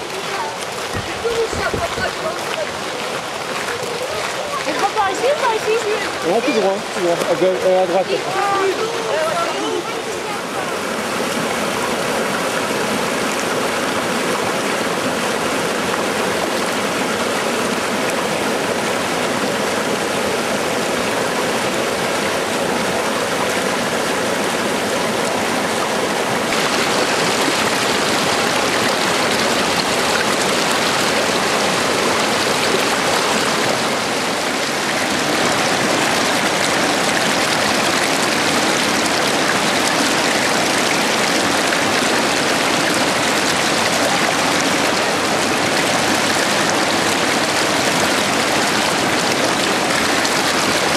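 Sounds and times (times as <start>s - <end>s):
stream rushing: 0.0s - 50.9s.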